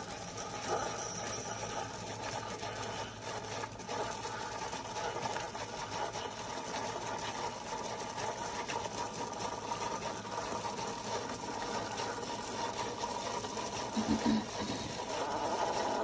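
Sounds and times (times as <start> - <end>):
coffee maker buzzing: 0.0 - 16.0.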